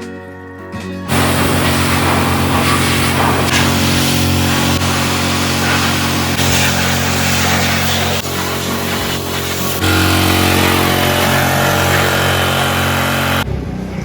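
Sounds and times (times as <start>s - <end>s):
loud hiss: 1.1s - 13.4s
motor-driven machine running: 1.1s - 13.4s.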